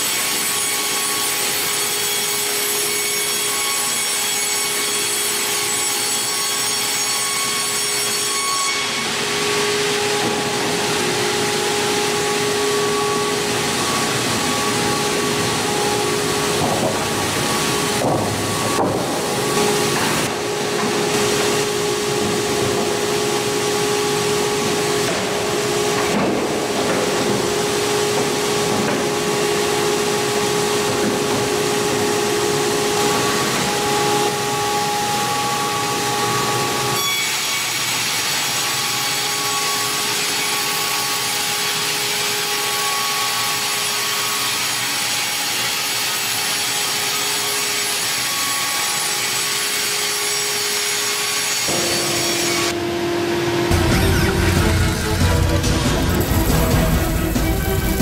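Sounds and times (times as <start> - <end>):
band sawmill cutting timber: 0.0 - 58.0.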